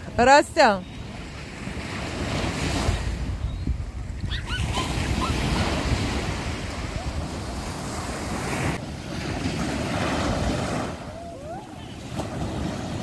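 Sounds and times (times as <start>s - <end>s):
wind rumbling on microphone: 0.9s - 13.0s
surf breaking on beach: 1.2s - 13.0s.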